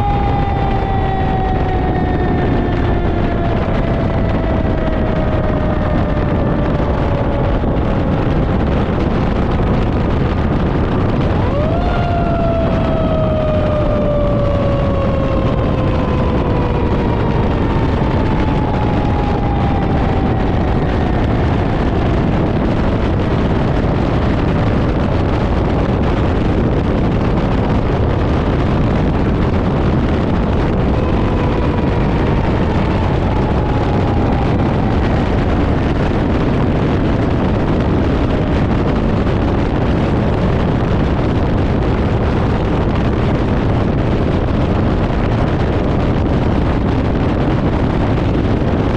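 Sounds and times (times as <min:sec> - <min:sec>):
fire engine engine and road noise: 0:00.0 - 0:48.9
siren wailing: 0:00.0 - 0:48.9.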